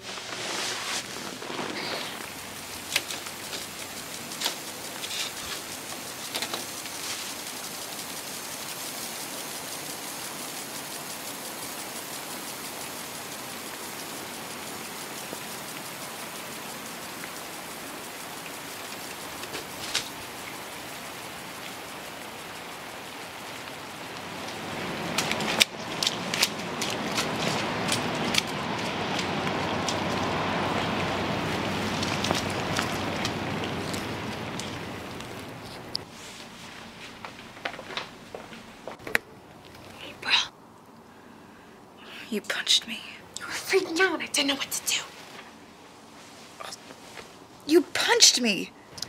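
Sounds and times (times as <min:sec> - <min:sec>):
steady rain-like hiss: 0:00.0 - 0:49.0.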